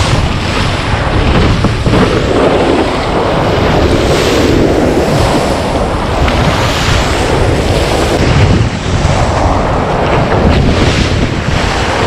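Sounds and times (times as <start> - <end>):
whitewater rushing and spraying: 0.0 - 12.0
wind buffeting microphone: 0.0 - 12.0.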